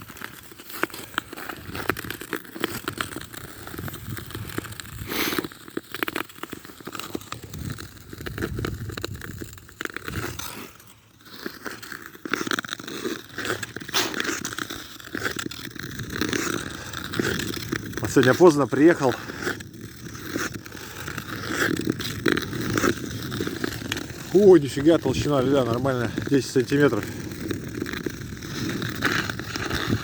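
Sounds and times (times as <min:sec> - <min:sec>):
footsteps crunching on snowy ice: 0:00.0 - 0:30.0.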